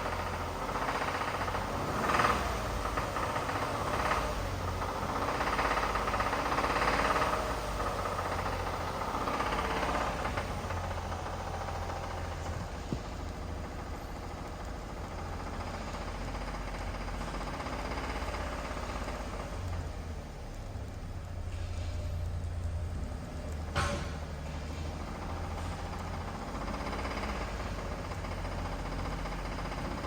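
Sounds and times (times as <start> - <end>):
engine running with rhythmic knock: 0.0 - 30.0.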